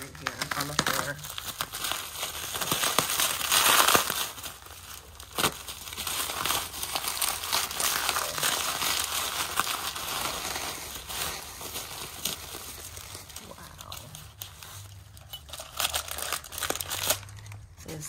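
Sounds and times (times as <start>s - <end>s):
bubble wrap crinkling: 0.0s - 18.0s.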